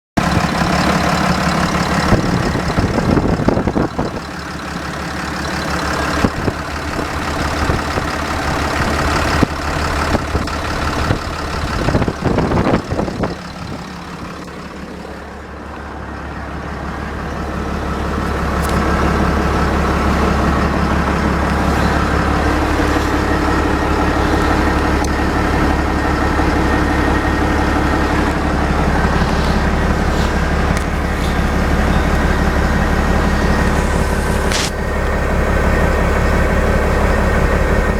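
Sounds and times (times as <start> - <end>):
diesel engine running: 0.2 - 37.9.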